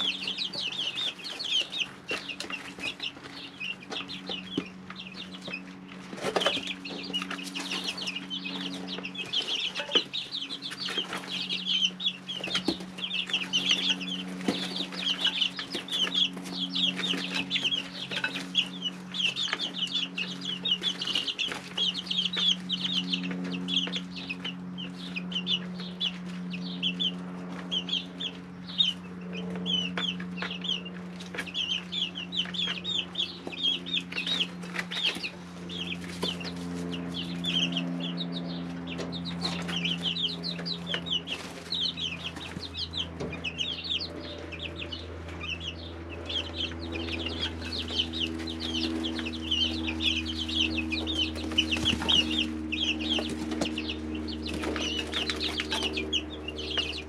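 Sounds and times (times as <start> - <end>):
chicks peeping: 0.0 - 57.0
steady low hum: 0.0 - 57.0.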